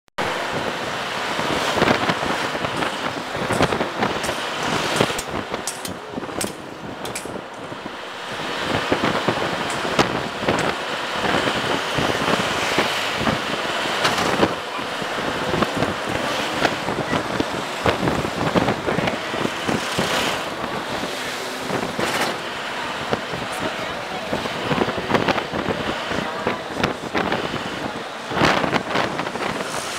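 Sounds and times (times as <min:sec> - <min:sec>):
vehicle road noise: 0:00.1 - 0:29.9
wind buffeting microphone: 0:00.2 - 0:29.9.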